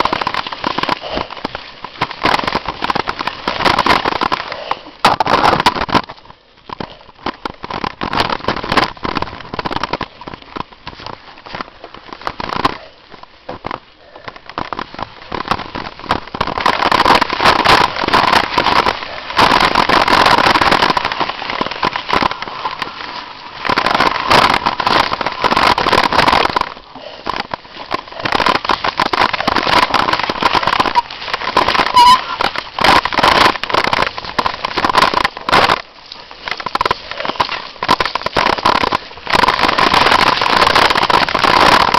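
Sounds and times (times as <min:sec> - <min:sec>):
bike rattling on rough dirt trail: 0:00.0 - 0:41.9.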